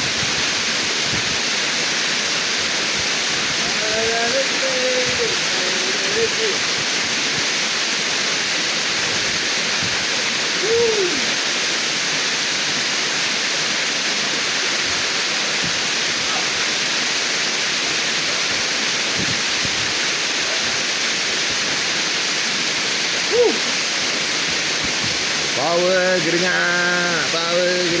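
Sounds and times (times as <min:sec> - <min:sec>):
small waterfall splashing: 0:00.0 - 0:28.0.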